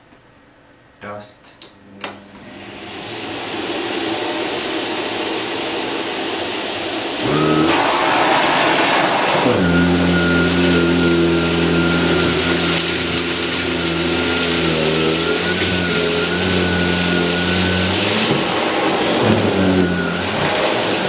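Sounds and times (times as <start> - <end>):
vacuum cleaner running: 2.0 - 21.0.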